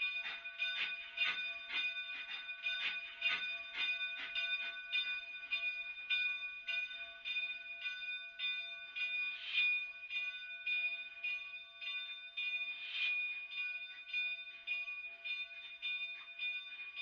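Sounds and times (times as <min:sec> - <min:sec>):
locomotive bell ringing: 0:00.0 - 0:17.0.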